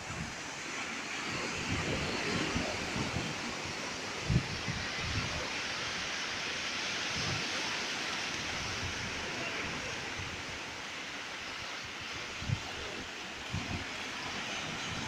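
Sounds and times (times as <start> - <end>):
sea surf washing ashore: 0.0 - 15.0.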